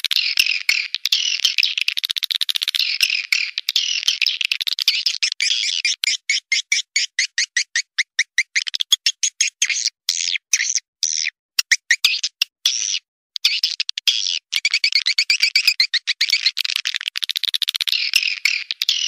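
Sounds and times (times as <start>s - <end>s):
bird twittering calls: 0.0s - 19.0s
swiftlet clicking chirps: 0.0s - 19.0s.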